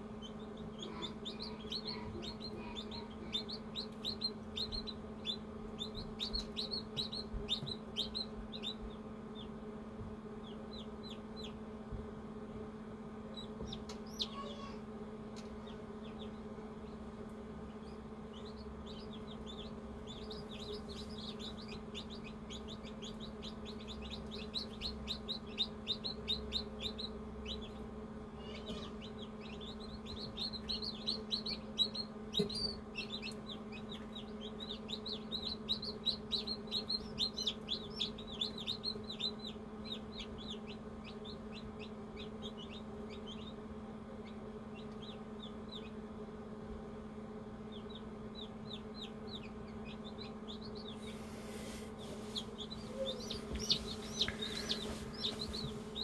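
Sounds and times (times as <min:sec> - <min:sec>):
chicks peeping: 0:00.0 - 0:56.0
steady low hum: 0:00.0 - 0:56.0.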